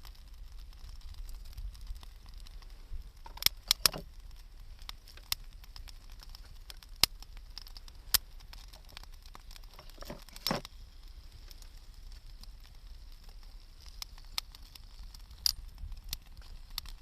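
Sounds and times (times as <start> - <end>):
fire hissing: 0.0 - 17.0
wood burning pops and snaps: 0.0 - 17.0.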